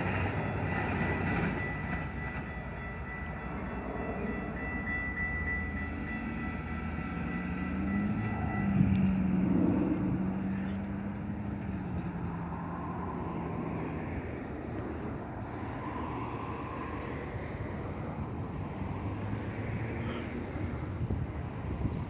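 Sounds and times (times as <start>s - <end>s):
railroad crossing bell ringing: 0.0s - 22.0s
traffic engine hum and tyres: 0.0s - 22.0s.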